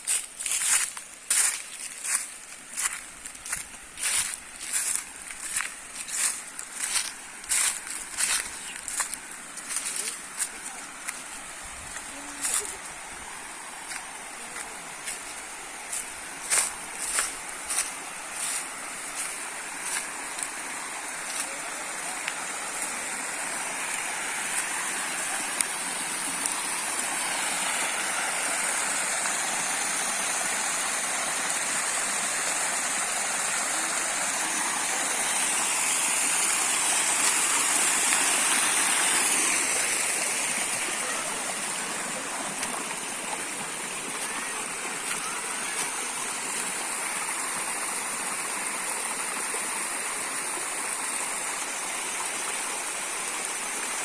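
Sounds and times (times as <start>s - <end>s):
waterfall splashing: 0.0s - 54.0s.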